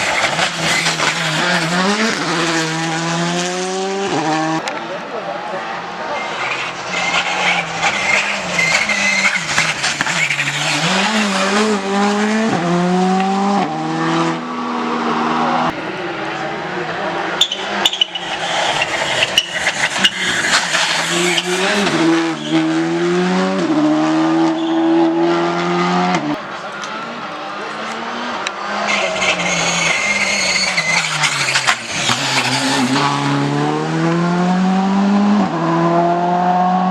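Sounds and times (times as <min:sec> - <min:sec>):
rally car engines accelerating: 0:00.0 - 0:36.9.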